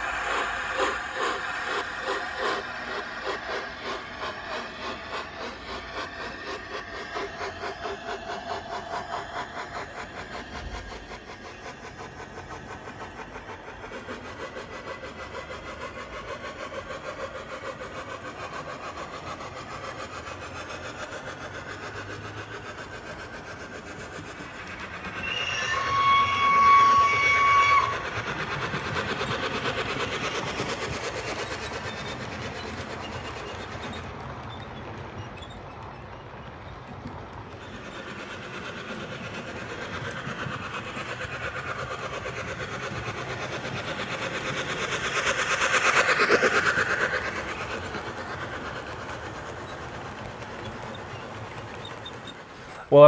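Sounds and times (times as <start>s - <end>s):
model train running sounds: 0.0s - 53.0s
rhythmic rail clatter: 0.0s - 53.0s.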